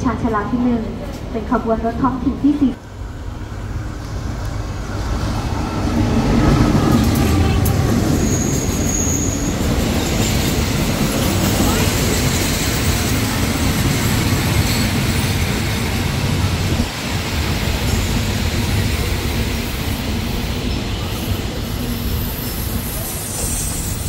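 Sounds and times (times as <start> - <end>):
train wheels running on rails: 3.7 - 24.0.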